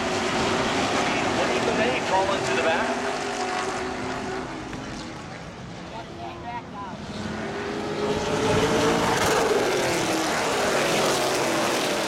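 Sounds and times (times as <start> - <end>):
stock car engines racing past: 0.0 - 12.0.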